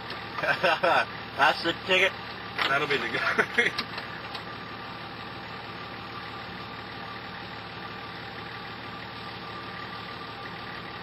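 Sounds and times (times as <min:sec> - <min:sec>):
engine idling inside cab: 0:00.0 - 0:11.0.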